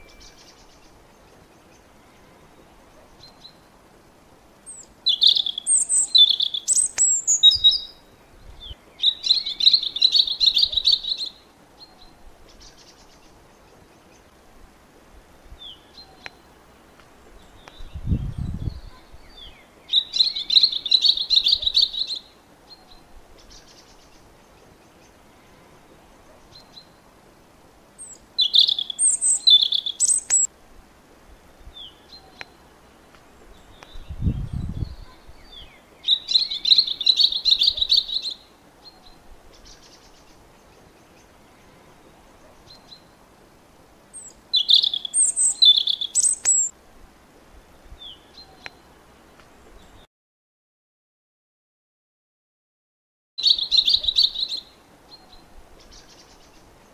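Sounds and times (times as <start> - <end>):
songbird chirping and trilling: 0.0 - 3.8, 4.6 - 14.4, 15.5 - 16.5, 17.3 - 27.2, 28.0 - 30.5, 31.6 - 32.8, 33.4 - 43.2, 44.1 - 46.8, 47.6 - 50.1, 53.4 - 56.9.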